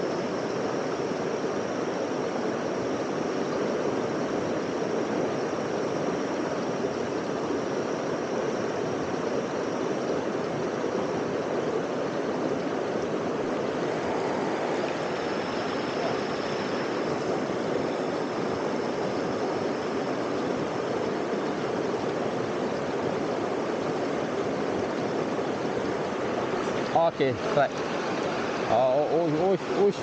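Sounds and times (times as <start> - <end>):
waterfall and stream rushing: 0.0 - 30.0.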